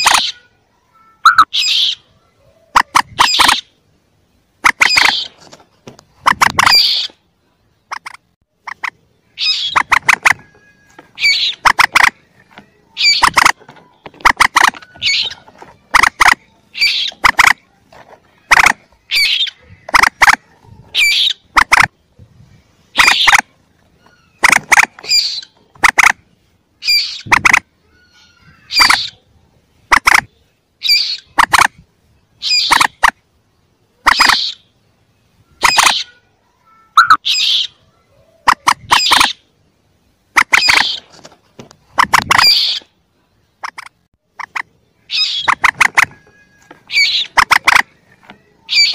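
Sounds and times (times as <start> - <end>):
rail bird calling: 0.0 - 48.9.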